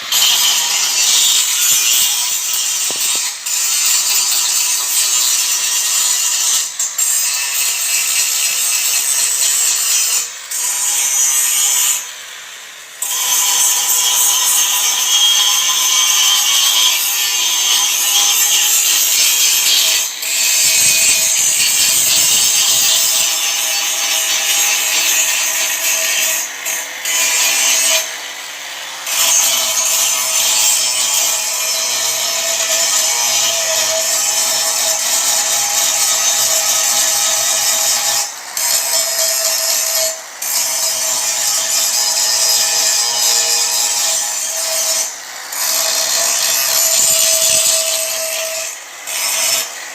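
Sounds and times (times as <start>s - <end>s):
angle grinder grinding metal: 0.0s - 49.9s.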